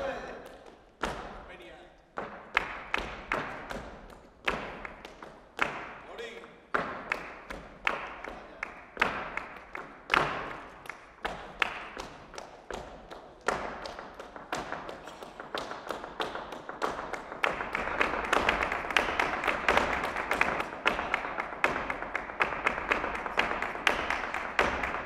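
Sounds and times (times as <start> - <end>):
dance shoes tapping on floor: 2.1 - 25.0.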